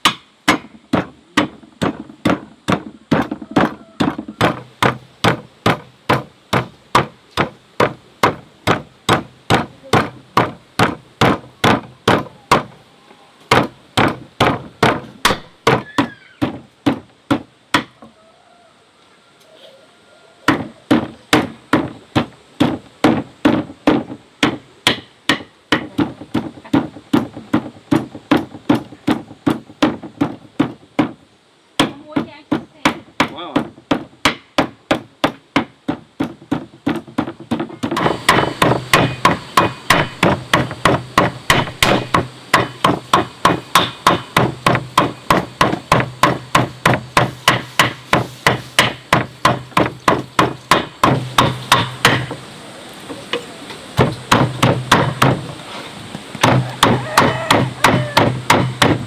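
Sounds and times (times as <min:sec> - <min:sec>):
cleaver chopping on wooden board: 0:00.0 - 0:12.7, 0:13.5 - 0:18.0, 0:20.5 - 0:31.2, 0:31.8 - 0:52.4, 0:54.0 - 0:55.4, 0:56.4 - 0:59.0.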